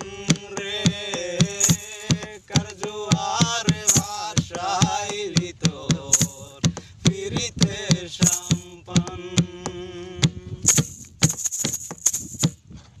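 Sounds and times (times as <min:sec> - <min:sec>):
man singing folk song: 0:00.0 - 0:11.2
hand drumming on plastic jerrycan: 0:00.0 - 0:12.6.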